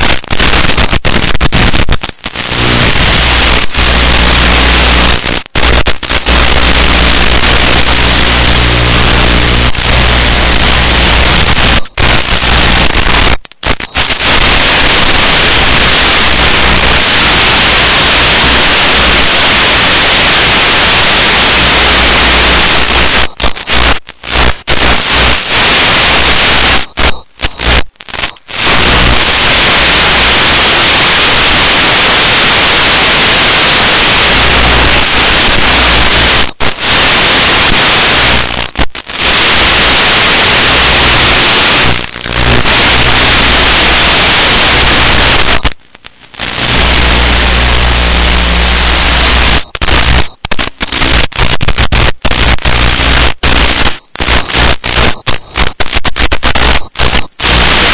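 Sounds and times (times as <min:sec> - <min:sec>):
loud static hiss: 0:00.0 - 0:57.9.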